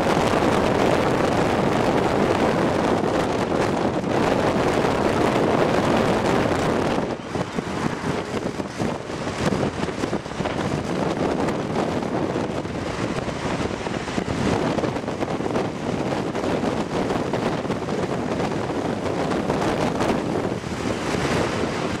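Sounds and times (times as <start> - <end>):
road noise: 0.0 - 22.0
wind rushing over microphone: 0.0 - 22.0.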